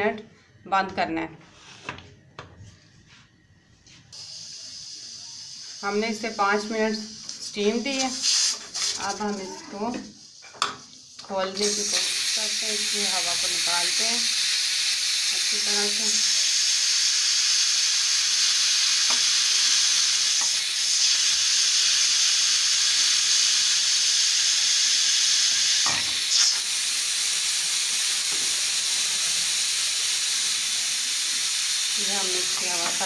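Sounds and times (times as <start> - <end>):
pressure cooker steam hissing: 4.1 - 33.0.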